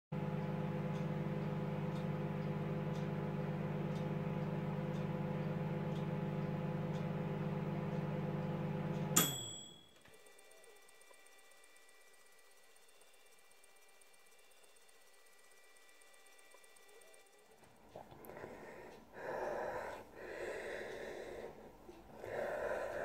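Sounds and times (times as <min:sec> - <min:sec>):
appliance motor humming: 0:00.2 - 0:23.0.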